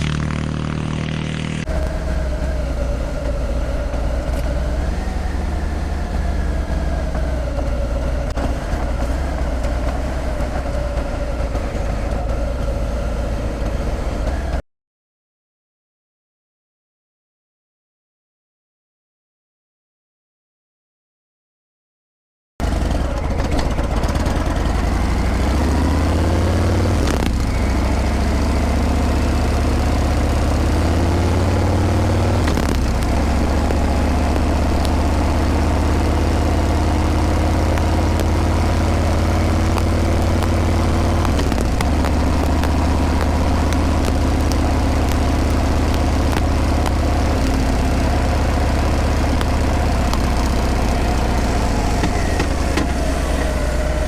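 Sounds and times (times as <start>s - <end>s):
motorcycle exhaust while riding: 0.0s - 14.6s, 22.6s - 54.0s.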